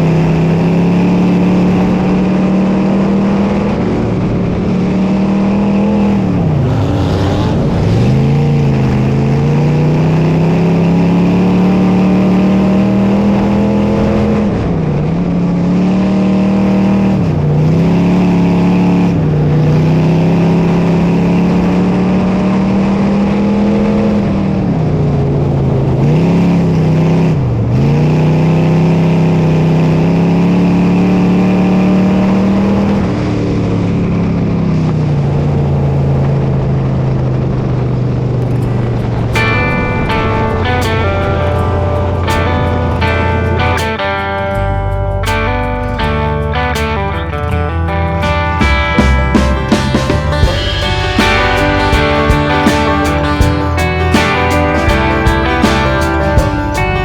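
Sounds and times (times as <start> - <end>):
race car engine revving: 0.0 - 37.7, 38.4 - 57.0.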